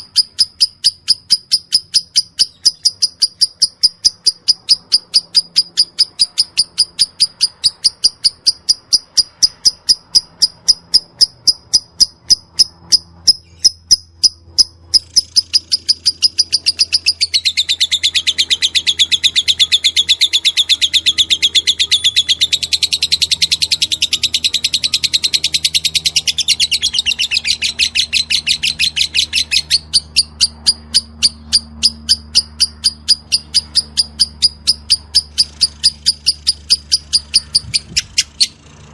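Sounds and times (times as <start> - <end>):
lovebird chirping: 0.0 - 38.8
bird buzzing trill: 0.0 - 38.9.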